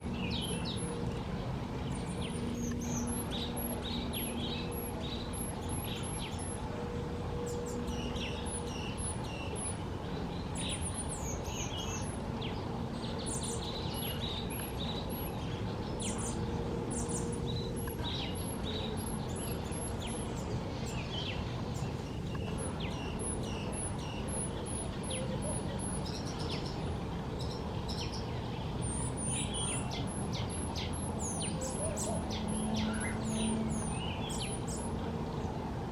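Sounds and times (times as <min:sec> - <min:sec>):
birds calling with thin whistles: 0:00.0 - 0:35.1
faint hum: 0:00.0 - 0:35.9.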